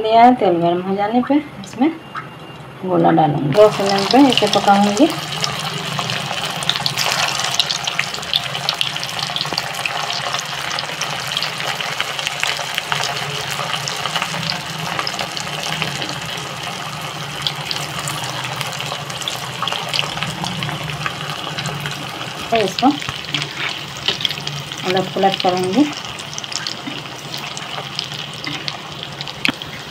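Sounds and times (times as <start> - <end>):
deep-frying sizzle with pops: 3.5 - 29.9.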